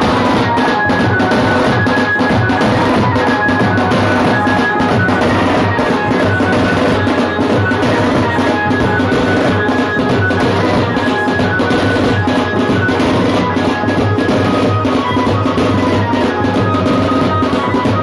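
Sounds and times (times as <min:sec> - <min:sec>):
fast continuous drumming: 0:00.0 - 0:18.0
high melody line: 0:00.0 - 0:18.0.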